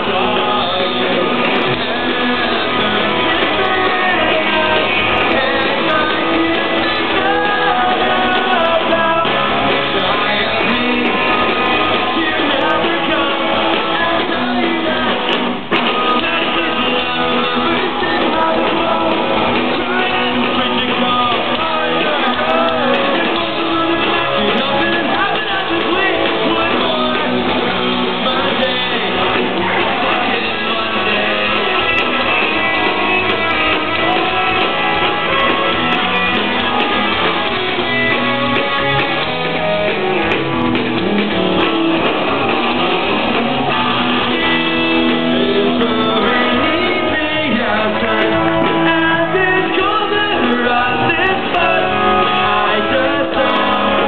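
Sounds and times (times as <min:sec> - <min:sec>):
live punk rock band: 0:00.0 - 0:54.0
person singing: 0:00.0 - 0:54.0.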